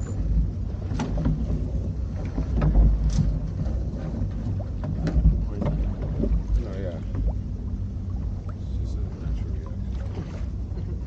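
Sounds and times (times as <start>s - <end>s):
water splashing against hull: 0.0s - 11.0s
wind rumbling on microphone: 0.0s - 11.0s.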